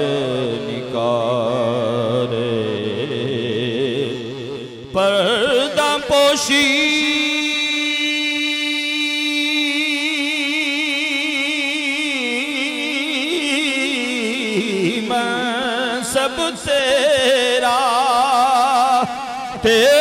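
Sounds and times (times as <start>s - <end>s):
man singing: 0.0s - 20.0s.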